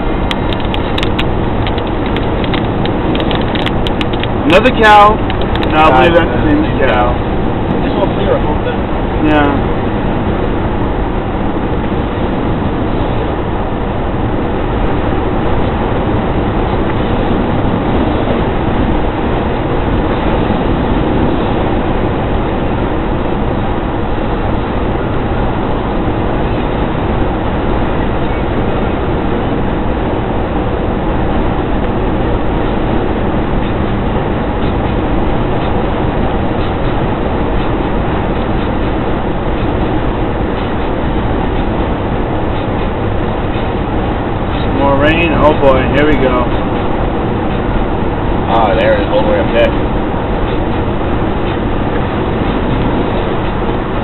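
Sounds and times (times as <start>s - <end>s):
car driving at highway speed: 0.0s - 54.0s.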